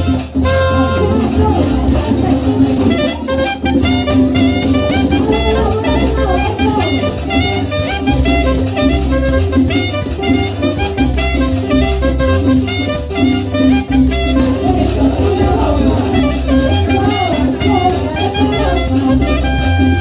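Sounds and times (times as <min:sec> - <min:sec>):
bass: 0:00.0 - 0:20.0
drums: 0:00.0 - 0:20.0
saxophone melody: 0:00.0 - 0:20.0.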